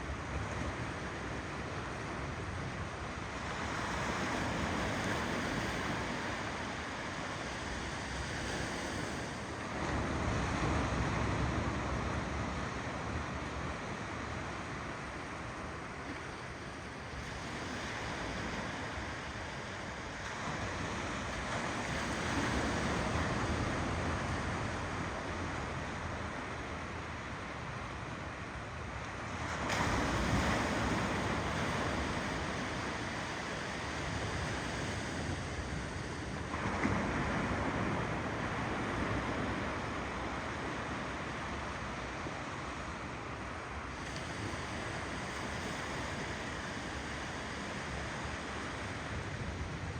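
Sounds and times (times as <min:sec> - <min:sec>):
ocean waves rolling onto shore: 0:00.0 - 0:49.9.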